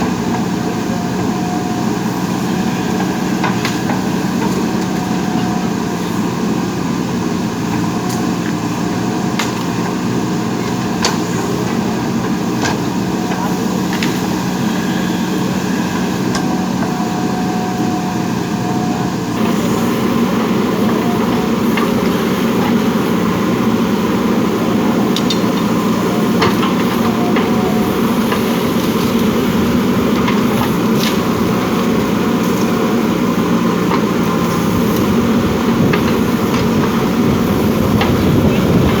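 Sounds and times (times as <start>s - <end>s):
backhoe diesel engine running: 0.0s - 39.0s.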